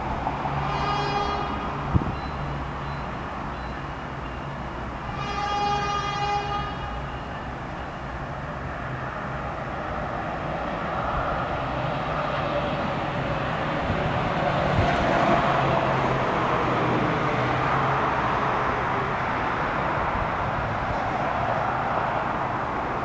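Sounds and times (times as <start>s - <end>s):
distant diesel train humming: 0.0s - 23.0s.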